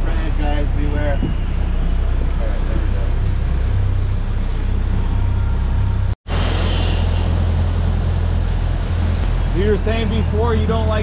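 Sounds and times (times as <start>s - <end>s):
boat engine droning: 0.0s - 11.0s
wind: 0.0s - 11.0s.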